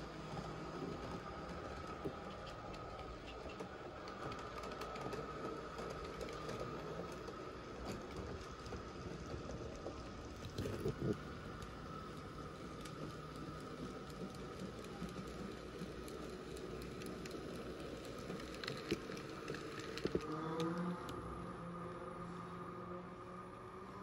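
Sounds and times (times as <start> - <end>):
wheels clicking over track: 0.0 - 24.0.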